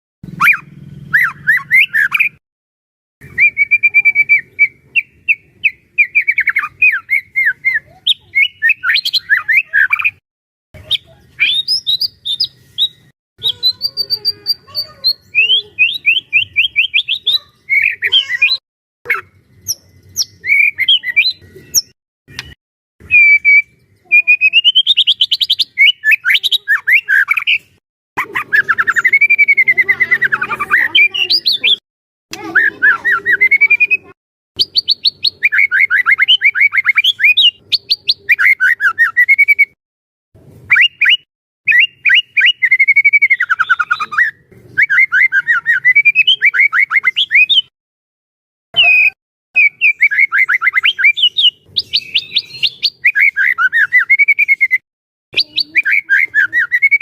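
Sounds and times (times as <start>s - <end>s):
songbird singing trills and whistles: 0.2s - 2.4s, 3.2s - 10.2s, 10.8s - 31.8s, 32.4s - 39.8s, 40.7s - 47.7s, 48.8s - 54.8s, 55.4s - 57.0s.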